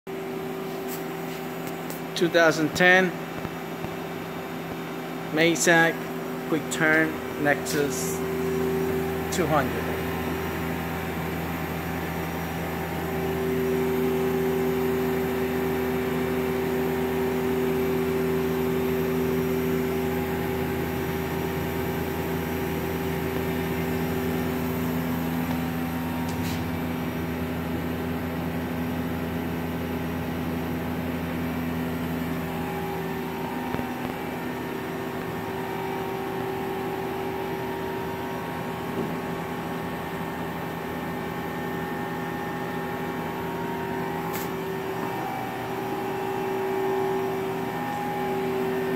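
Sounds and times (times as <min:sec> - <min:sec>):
lathe running with steady hum: 0:00.1 - 0:48.9.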